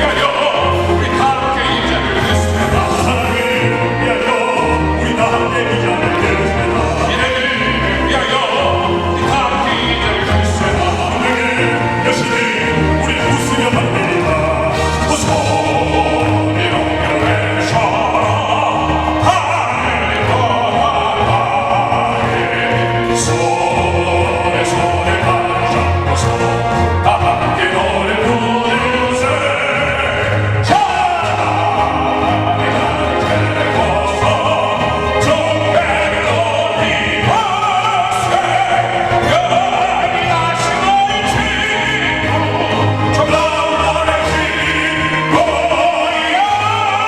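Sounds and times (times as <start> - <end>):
instrumental accompaniment: 0.0 - 47.0
operatic voices singing: 0.0 - 47.0.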